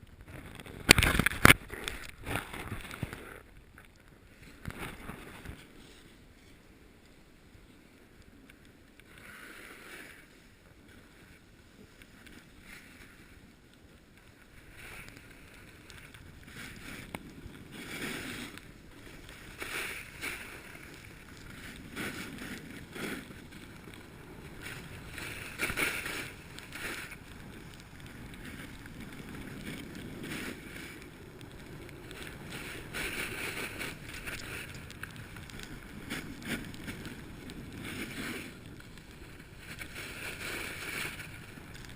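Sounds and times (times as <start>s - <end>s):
snowboard scraping over snow: 4.2s - 41.9s.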